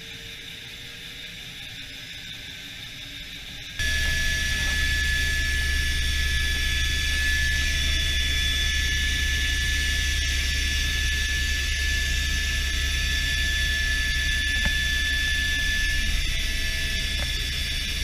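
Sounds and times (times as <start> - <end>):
helicopter engine whine: 0.0 - 18.0
low rotor drone: 0.0 - 18.0.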